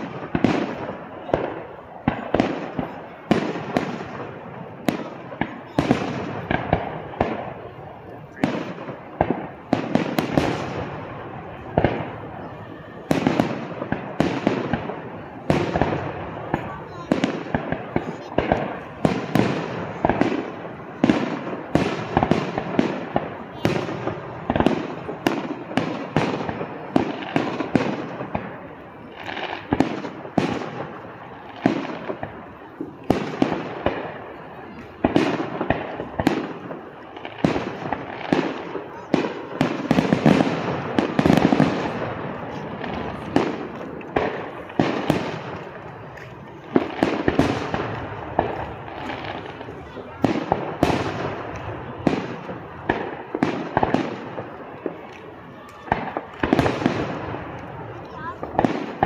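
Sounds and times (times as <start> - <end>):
fireworks bursting with echo: 0.0 - 59.0.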